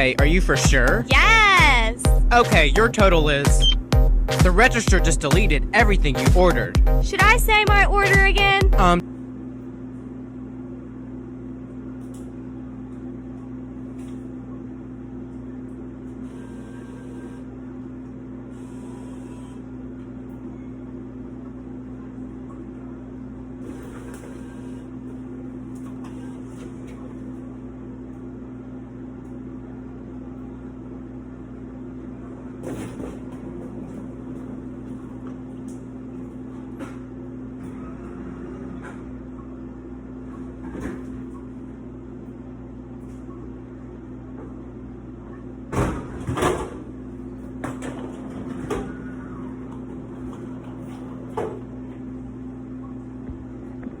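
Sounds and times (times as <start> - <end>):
vending machine humming: 0.0 - 54.0.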